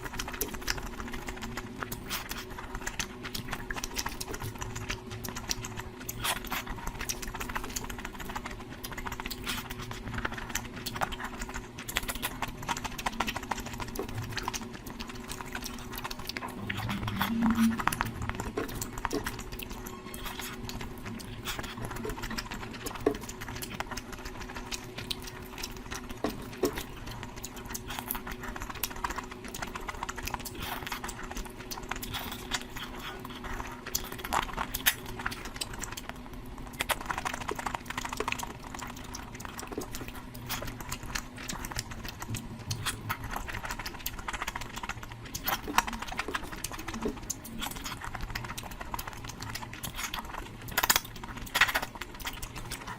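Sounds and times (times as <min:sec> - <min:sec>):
faint low hum: 0:00.0 - 0:52.9
wet chewing sounds: 0:00.0 - 0:52.9.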